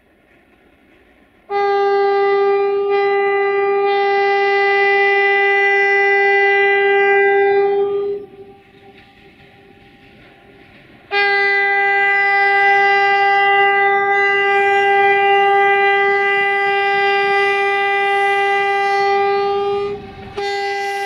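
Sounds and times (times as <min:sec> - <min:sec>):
locomotive air horn blast: 0:01.5 - 0:08.6, 0:11.1 - 0:21.0.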